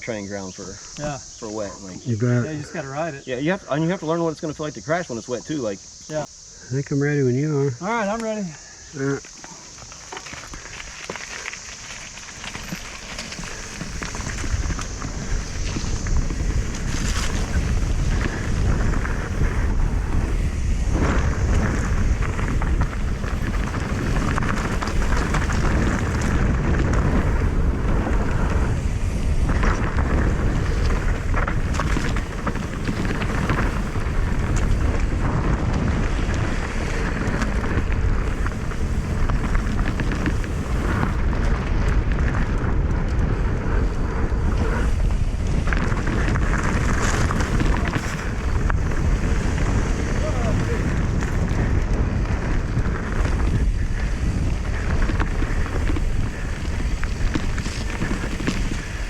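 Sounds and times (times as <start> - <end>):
bike tyres crunching on gravel: 7.3 - 59.0
wind buffeting microphone: 9.0 - 59.0.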